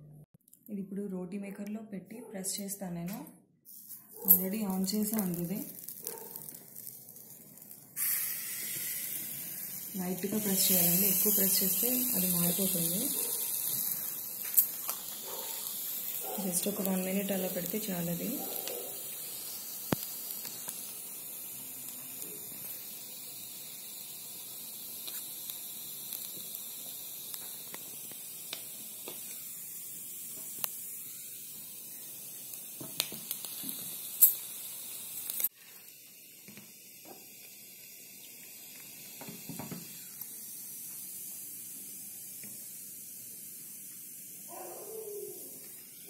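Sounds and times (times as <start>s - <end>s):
dough sizzling and crackling: 3.7s - 46.0s.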